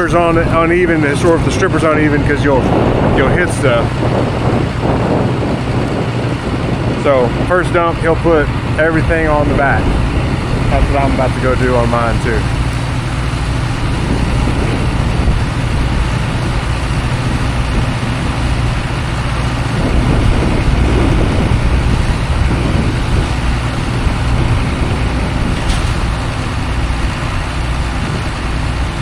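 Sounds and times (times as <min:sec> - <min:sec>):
broad machine noise: 0:00.0 - 0:29.0
diesel engine humming under load: 0:00.0 - 0:29.0.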